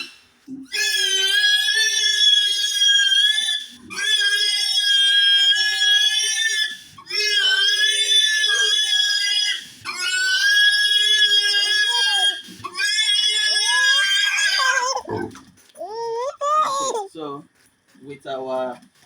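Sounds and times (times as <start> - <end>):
pig squealing: 0.0 - 17.0.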